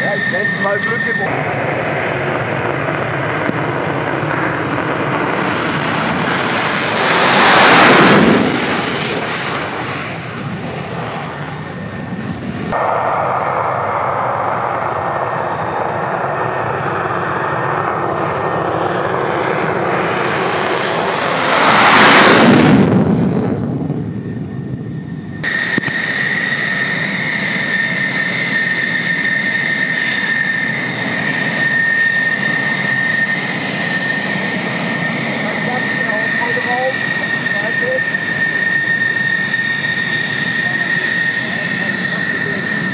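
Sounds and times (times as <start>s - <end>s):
jet engine on takeoff: 0.0s - 42.9s
jet taxiing with high whine: 0.0s - 42.9s.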